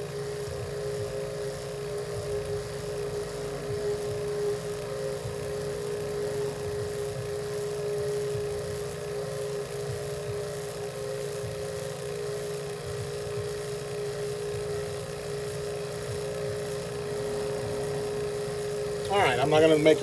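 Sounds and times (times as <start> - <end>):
vacuum pump humming: 0.0 - 20.0.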